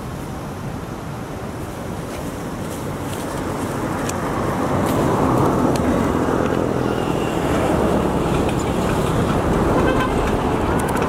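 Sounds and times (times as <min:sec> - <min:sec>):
passing vehicle engine and tyres: 0:01.8 - 0:11.0.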